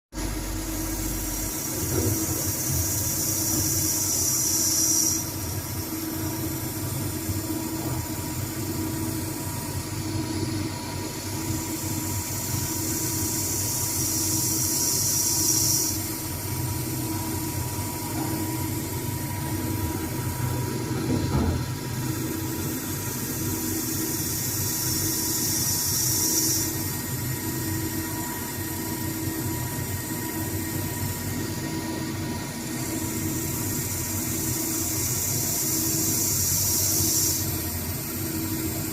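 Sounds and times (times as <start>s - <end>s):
high hiss of cutting: 0.2s - 9.4s, 11.3s - 20.5s, 22.0s - 29.2s, 32.8s - 38.9s
lathe machine hum: 0.2s - 38.9s.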